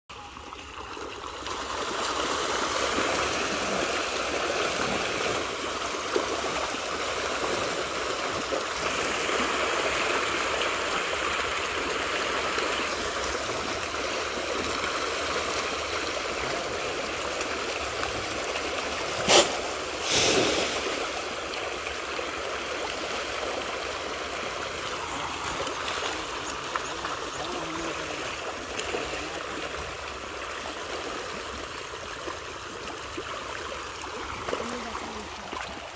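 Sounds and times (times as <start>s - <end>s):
fish splashing at the surface: 0.5s - 35.9s.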